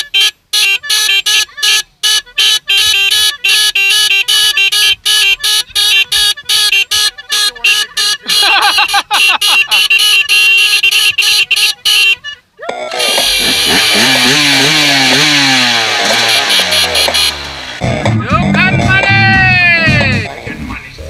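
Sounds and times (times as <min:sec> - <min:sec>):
horn-like synth stabs: 0:00.0 - 0:20.4.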